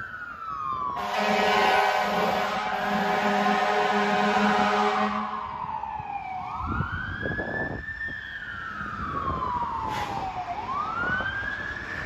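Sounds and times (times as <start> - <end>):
fire engine siren wailing: 0.0 - 12.0.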